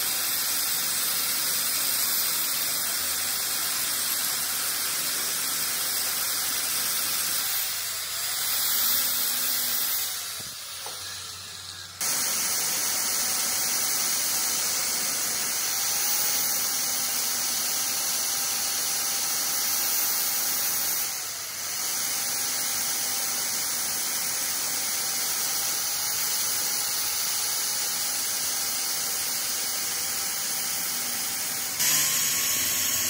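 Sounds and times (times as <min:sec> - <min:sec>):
angle grinder grinding steel: 0:00.0 - 0:33.0.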